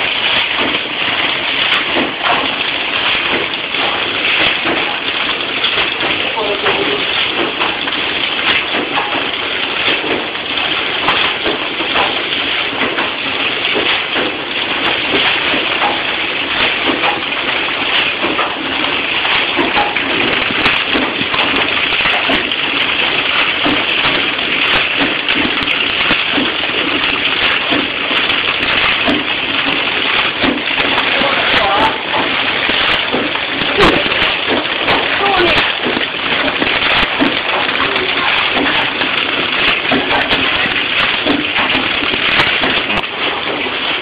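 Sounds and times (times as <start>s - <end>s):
packaging machine running: 0.0s - 44.0s.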